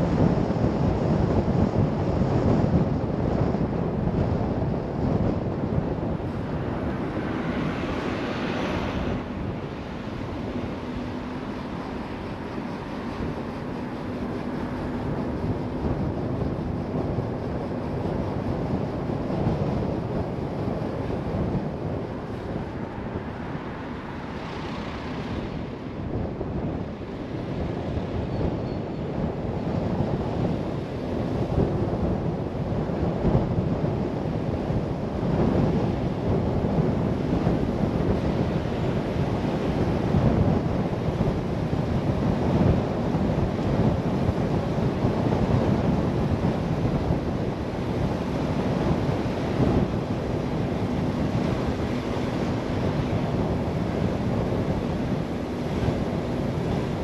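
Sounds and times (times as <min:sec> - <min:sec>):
road and wind noise: 0:00.0 - 0:57.0
wind buffeting microphone: 0:00.0 - 0:57.0.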